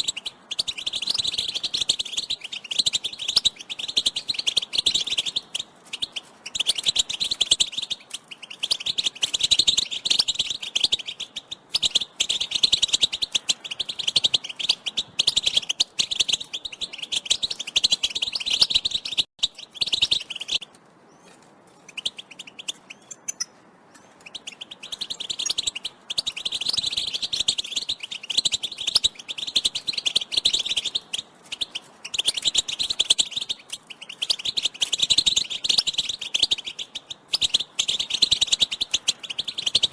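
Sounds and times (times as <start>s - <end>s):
finch twittering: 0.0s - 39.9s.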